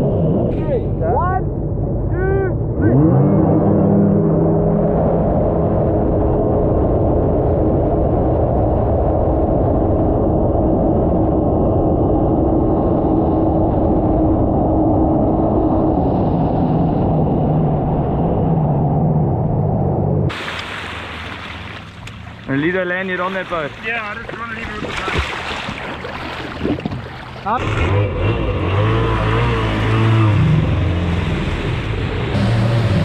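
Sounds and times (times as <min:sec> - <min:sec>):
jet ski engine drone: 0:00.0 - 0:33.0
water and wind rushing: 0:00.0 - 0:33.0.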